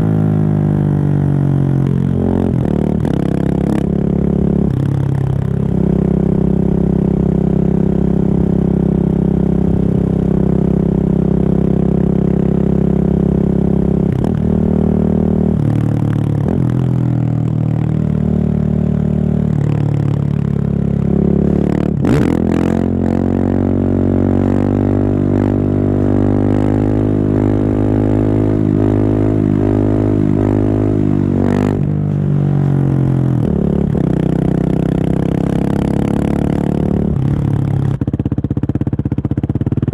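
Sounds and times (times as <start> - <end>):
loud motorcycle engine revving: 0.0 - 39.9.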